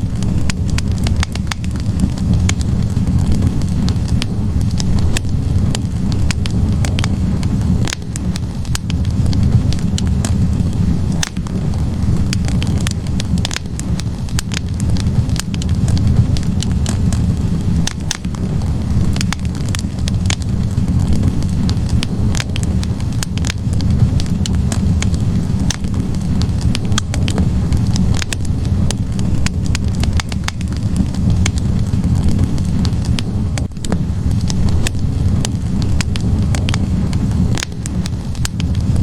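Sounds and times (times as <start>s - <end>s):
logs crackling and popping: 0.0s - 39.0s
low rumble of flames: 0.0s - 39.0s.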